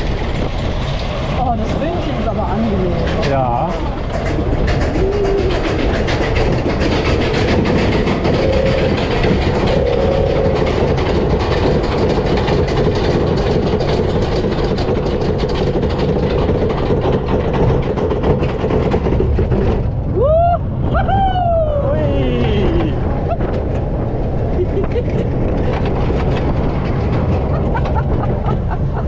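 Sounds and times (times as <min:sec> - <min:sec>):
lift chain and track clattering: 0:00.0 - 0:20.1, 0:22.7 - 0:29.0.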